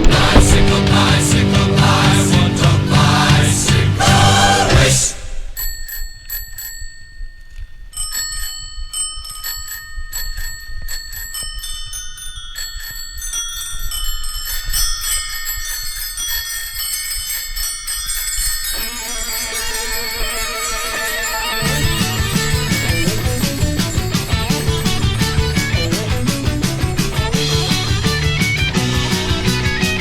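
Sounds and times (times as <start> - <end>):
bicycle bells ringing: 5.5 - 30.0.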